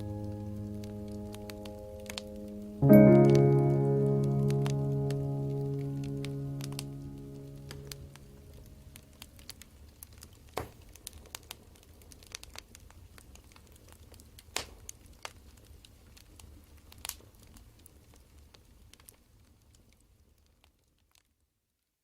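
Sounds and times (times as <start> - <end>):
wood fire crackling: 0.0 - 21.2.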